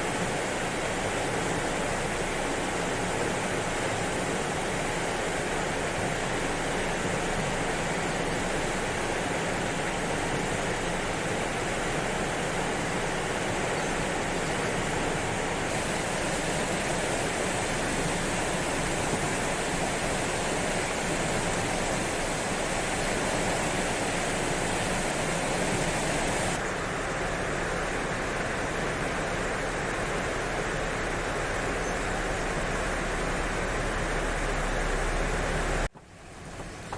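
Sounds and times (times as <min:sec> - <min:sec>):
river rushing: 0:00.0 - 0:36.9.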